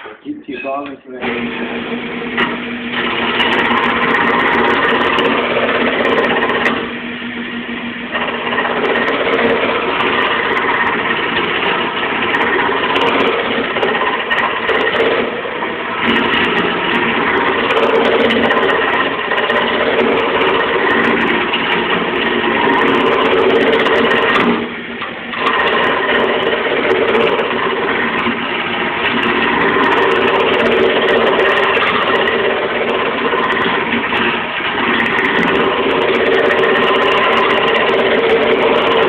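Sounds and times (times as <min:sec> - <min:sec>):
lathe hum: 0:00.0 - 0:39.0
turning tool scraping wood: 0:01.2 - 0:39.0.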